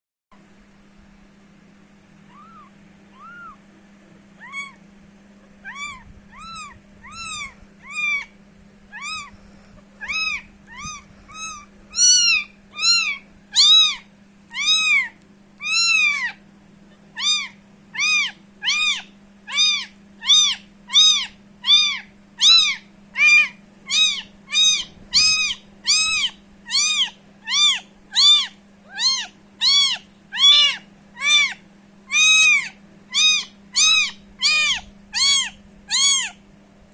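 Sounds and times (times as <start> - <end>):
kitten mewing: 2.3 - 3.6, 4.4 - 4.8, 5.4 - 36.4.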